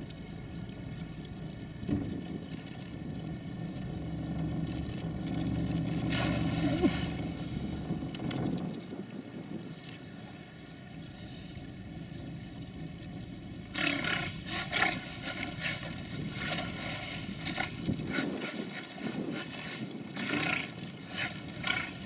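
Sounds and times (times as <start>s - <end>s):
boat engine hum: 0.0s - 22.0s.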